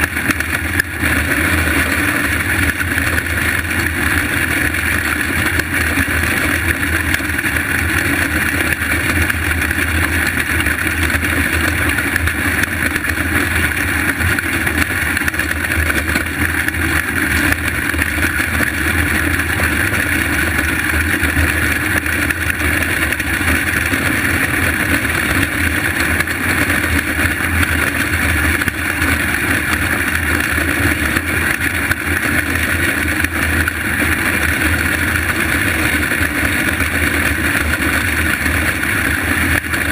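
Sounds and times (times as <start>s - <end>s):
racing kart engines droning: 0.0s - 39.9s.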